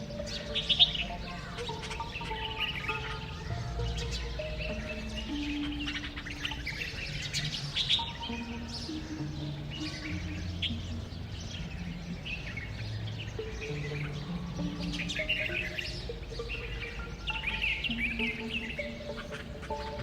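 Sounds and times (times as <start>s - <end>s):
birds chirping: 0.0s - 20.0s
soft music of held notes: 0.0s - 20.0s.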